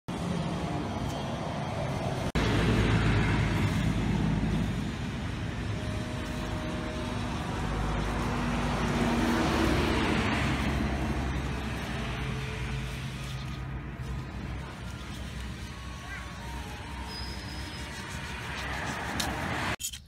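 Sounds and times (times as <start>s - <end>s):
dry stalks rustling: 2.4s - 19.8s.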